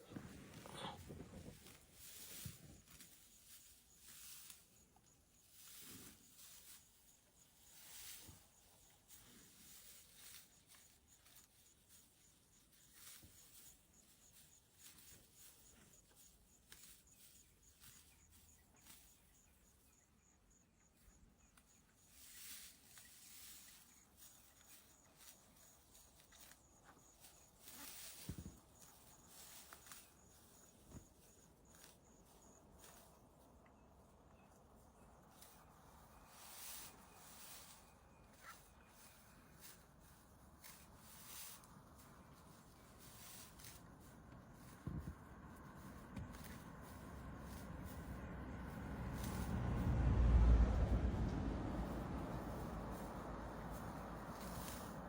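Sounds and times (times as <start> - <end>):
soft rustling: 0.0 - 20.0, 21.0 - 55.0.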